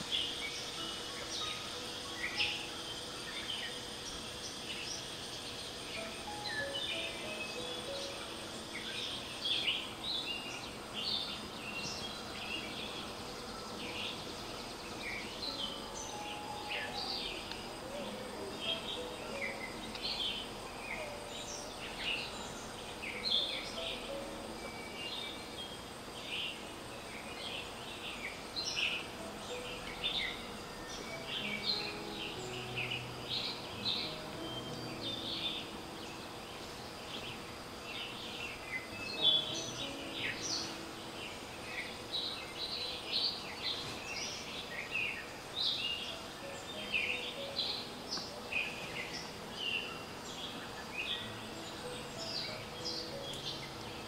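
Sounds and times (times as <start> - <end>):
birds chirping and calling: 0.0 - 54.0
insects droning: 0.0 - 54.0.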